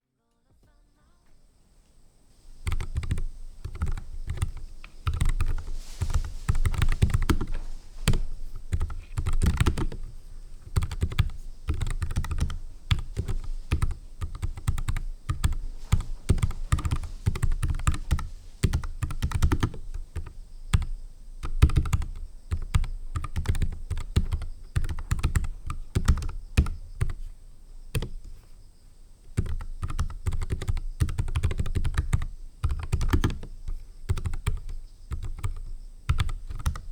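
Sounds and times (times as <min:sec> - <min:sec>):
mechanical keyboard typing: 0:02.6 - 0:27.2, 0:27.9 - 0:28.2, 0:29.4 - 0:33.5, 0:34.1 - 0:36.9.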